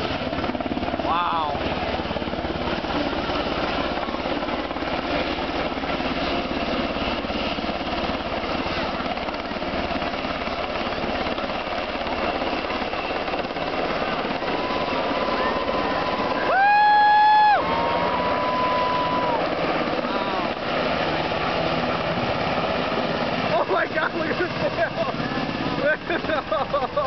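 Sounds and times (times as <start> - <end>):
helicopter rotor chopping: 0.0 - 27.0.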